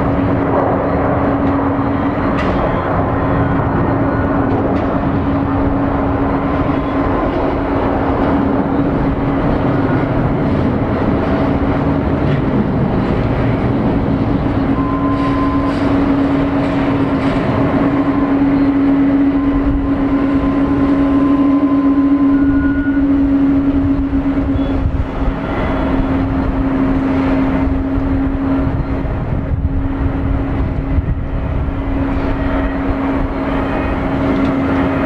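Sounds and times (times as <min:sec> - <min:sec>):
jet engines at takeoff power: 0:00.0 - 0:35.0.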